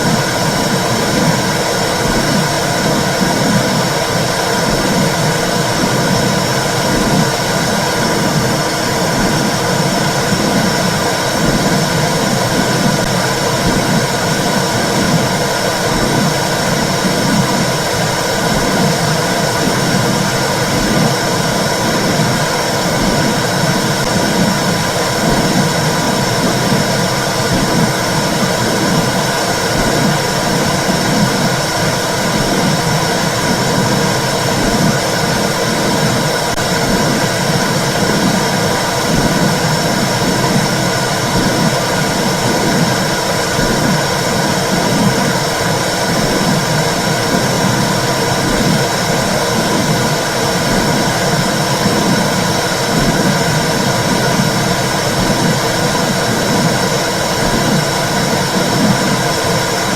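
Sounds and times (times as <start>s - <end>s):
loud steady rushing noise: 0.0s - 59.9s
low pulse: 0.0s - 59.9s.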